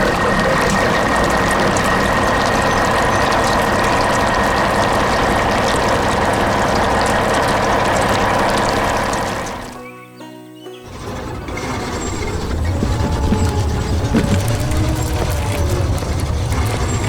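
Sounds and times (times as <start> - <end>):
machine running steadily: 0.0 - 9.8, 10.9 - 17.0.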